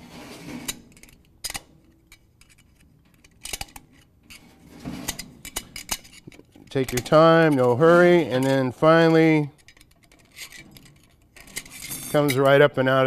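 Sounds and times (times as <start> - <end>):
screwdriver clicking and scraping metal: 0.6 - 12.6.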